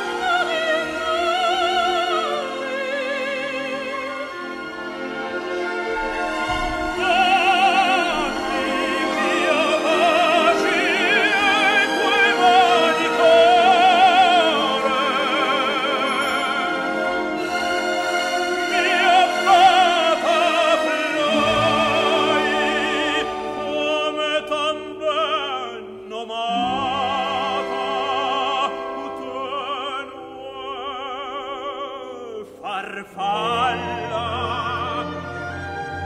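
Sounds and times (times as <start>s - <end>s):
operatic singing with vibrato: 0.0s - 36.0s
orchestra playing: 0.0s - 36.0s.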